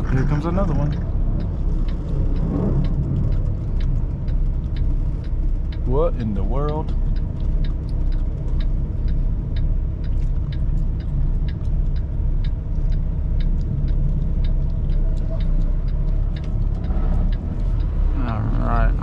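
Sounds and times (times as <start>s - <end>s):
road noise: 0.0s - 19.0s
truck engine rumble: 0.0s - 19.0s
turn signal ticking: 0.0s - 19.0s.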